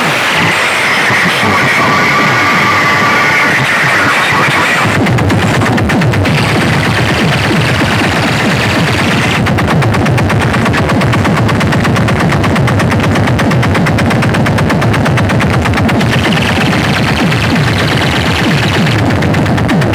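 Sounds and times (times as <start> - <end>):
electronic music with booming bass: 0.0 - 19.9
fast machine-gun-like rattle: 3.7 - 19.9.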